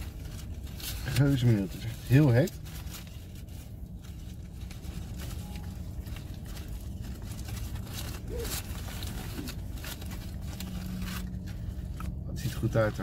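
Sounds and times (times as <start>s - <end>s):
foil wrapper crinkling: 0.0s - 13.0s
steady low hum: 0.0s - 13.0s.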